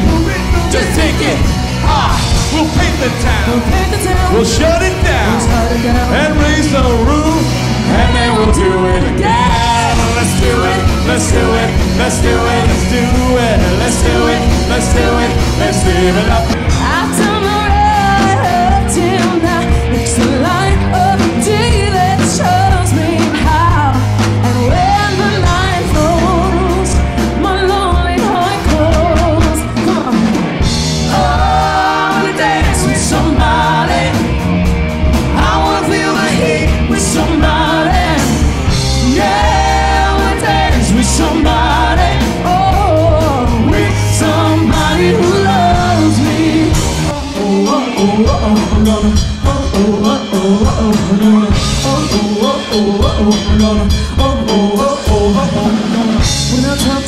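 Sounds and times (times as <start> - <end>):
pop-rock band playing: 0.0 - 57.0
sung vocals: 0.0 - 57.0.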